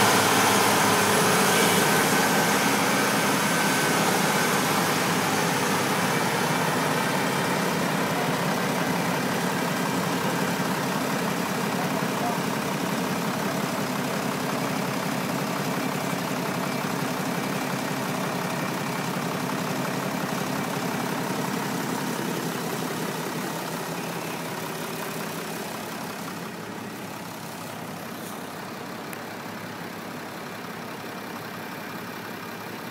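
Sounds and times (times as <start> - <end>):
tractor diesel engines running: 0.0 - 32.9.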